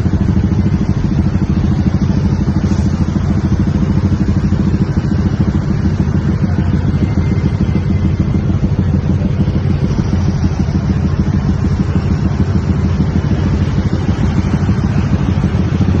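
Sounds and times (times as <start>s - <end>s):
diesel bus engine running: 0.0s - 16.0s.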